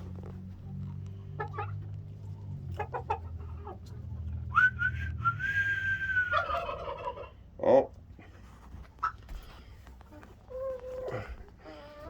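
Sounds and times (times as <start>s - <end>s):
chickens clucking: 0.0s - 5.2s, 5.8s - 12.0s.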